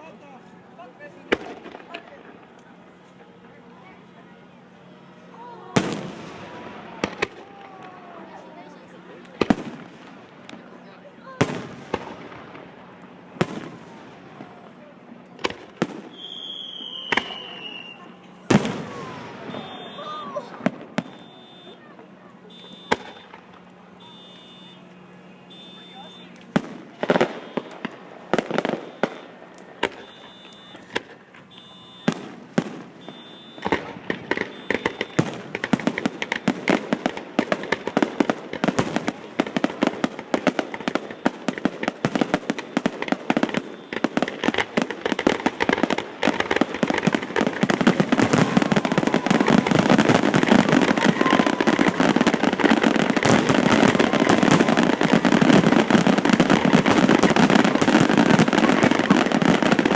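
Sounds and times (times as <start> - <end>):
fireworks bangs: 0.0 - 59.9
fireworks crackle: 0.0 - 59.9.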